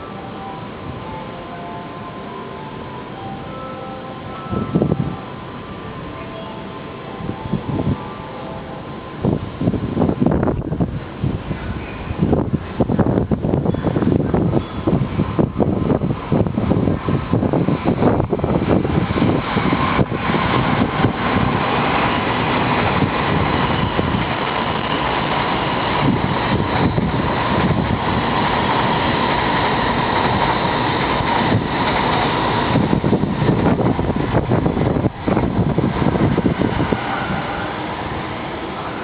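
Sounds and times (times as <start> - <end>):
strong wind on microphone: 4.5 - 5.2, 7.2 - 8.1, 9.2 - 39.0.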